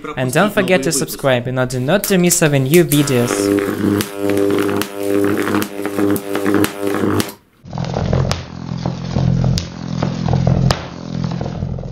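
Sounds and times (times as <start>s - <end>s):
electric arc buzzing and crackling: 2.0s - 11.9s.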